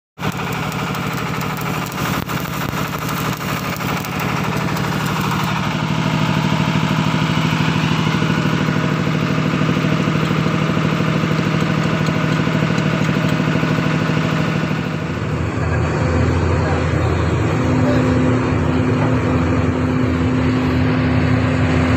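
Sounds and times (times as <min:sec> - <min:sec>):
engine running: 0:00.2 - 0:21.9.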